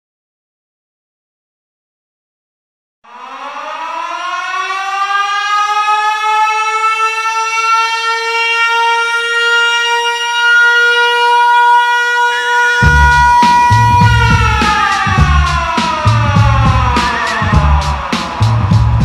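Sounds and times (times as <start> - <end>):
siren winding up: 3.1 - 19.0.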